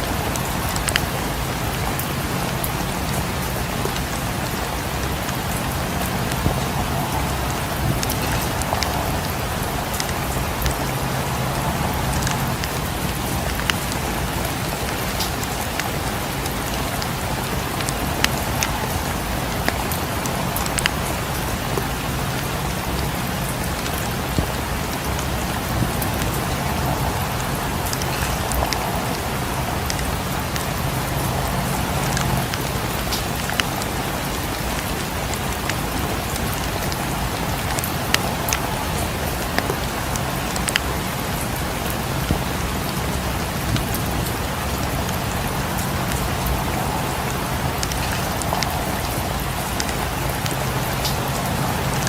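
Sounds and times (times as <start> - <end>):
wood fire crackling: 0.0 - 42.6, 43.2 - 52.0
steady rain falling: 0.0 - 52.0.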